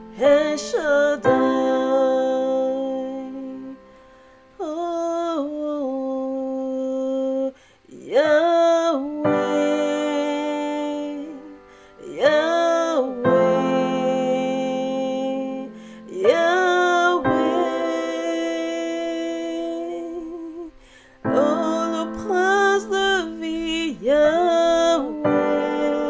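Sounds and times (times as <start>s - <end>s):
woman singing worship song: 0.0s - 26.0s.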